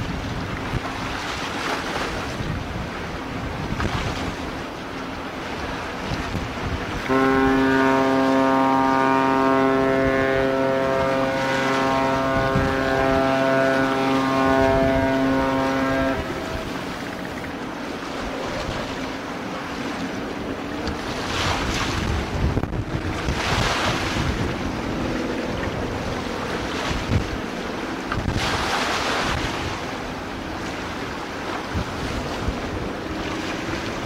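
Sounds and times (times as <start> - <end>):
sea waves washing: 0.0 - 34.0
wind buffeting microphone: 0.0 - 34.0.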